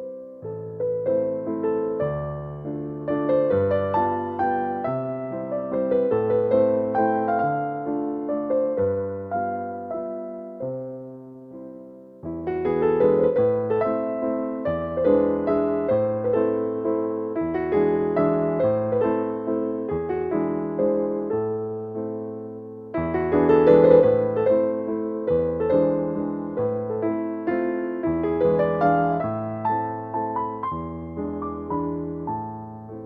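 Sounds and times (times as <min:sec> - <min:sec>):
slow gentle piano piece: 0:00.0 - 0:33.0.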